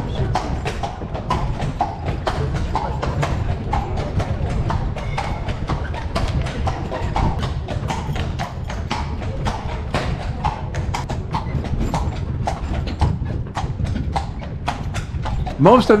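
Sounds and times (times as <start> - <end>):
horse hooves clip-clopping on road: 0.0 - 16.0
low rumble: 0.0 - 16.0.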